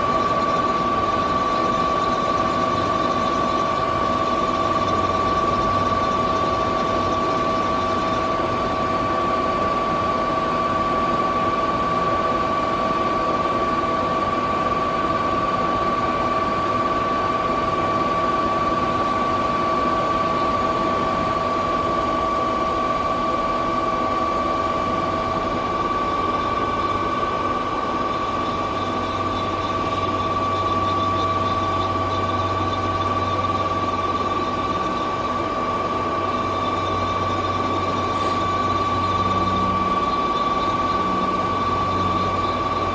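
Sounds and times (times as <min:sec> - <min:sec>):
mechanical noise: 0:00.0 - 0:09.8, 0:17.5 - 0:42.9
lathe whine: 0:00.0 - 0:42.9.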